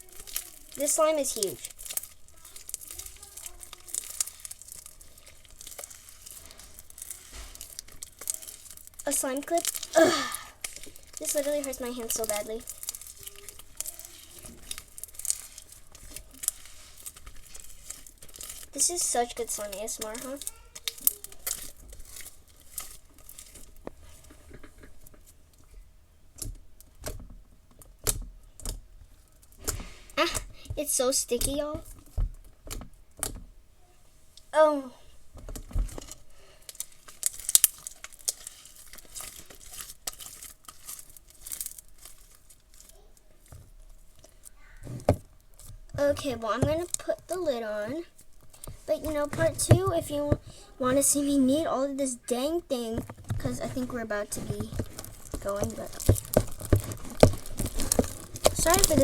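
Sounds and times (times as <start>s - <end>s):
slime crackling and popping: 0.0s - 33.4s, 35.3s - 59.0s.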